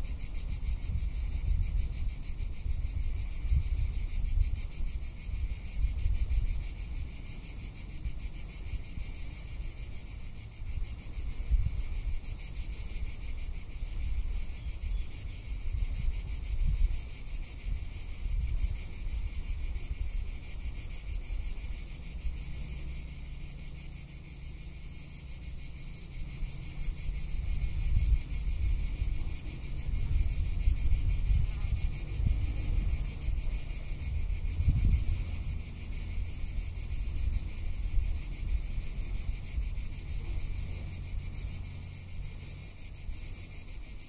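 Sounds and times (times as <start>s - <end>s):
wind buffeting microphone: 0.0s - 10.1s, 10.7s - 22.3s, 25.7s - 42.3s
cicadas buzzing: 0.0s - 44.0s.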